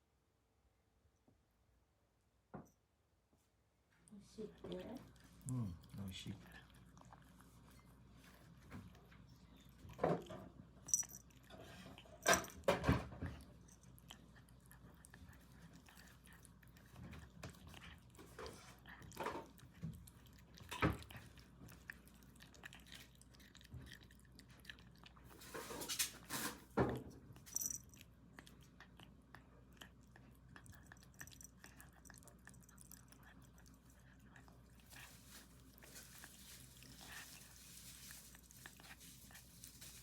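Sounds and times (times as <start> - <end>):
kitten chewing food: 4.1 - 40.0.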